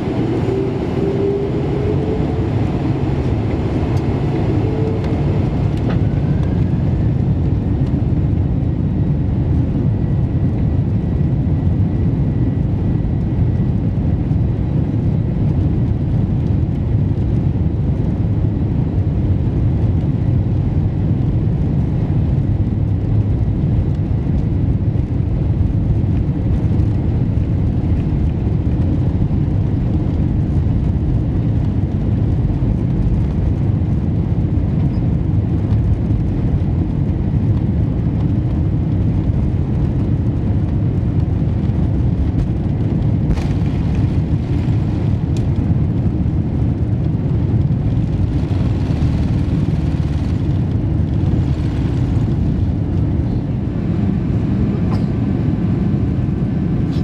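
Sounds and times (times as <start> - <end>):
aircraft engine low rumble: 0.0 - 57.0.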